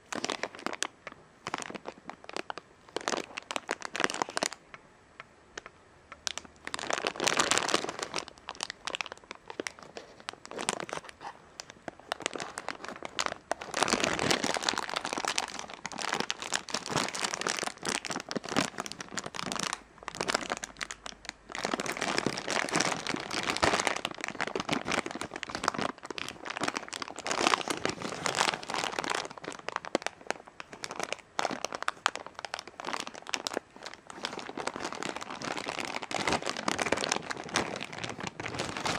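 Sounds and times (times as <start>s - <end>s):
plastic bag crinkling: 0.0s - 4.7s, 5.6s - 38.9s.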